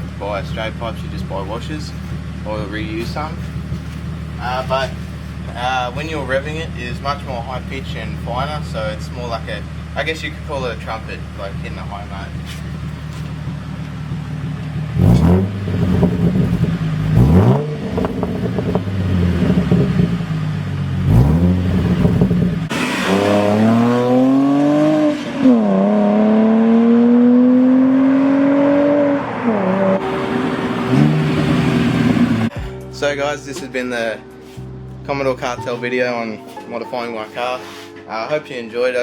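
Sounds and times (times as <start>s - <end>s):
car engine revving: 0.0s - 32.6s.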